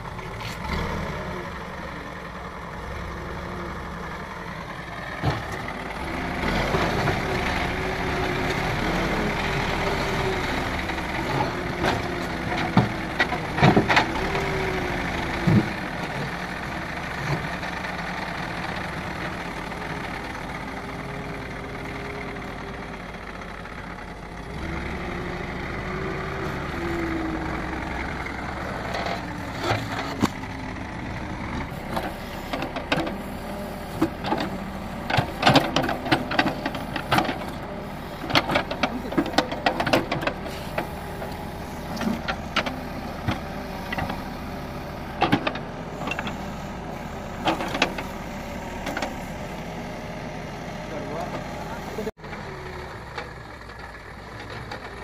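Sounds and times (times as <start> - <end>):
diesel engine under hydraulic load: 0.0 - 55.0.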